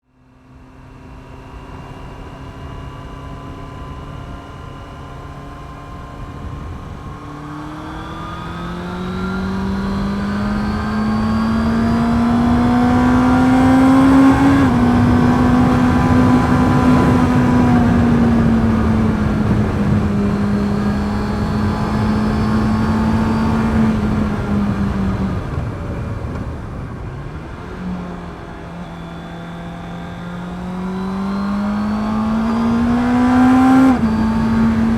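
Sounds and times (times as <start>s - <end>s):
motorcycle engine accelerating: 0.4s - 34.9s.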